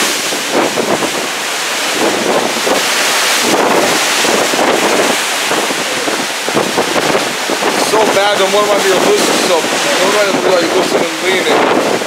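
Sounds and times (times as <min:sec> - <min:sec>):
rough sea rushing: 0:00.0 - 0:12.0
wind buffeting microphone: 0:00.0 - 0:12.0.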